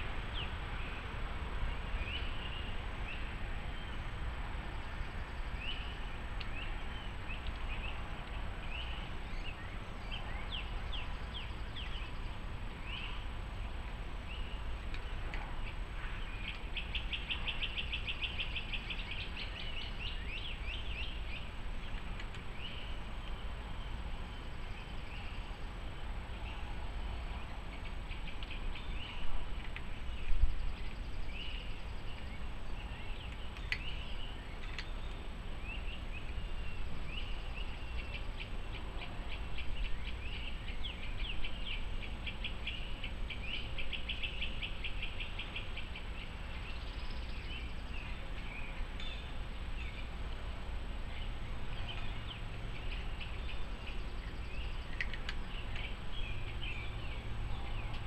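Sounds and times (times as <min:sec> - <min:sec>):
birds chirping and trilling: 0:00.0 - 0:50.2, 0:51.1 - 0:58.0.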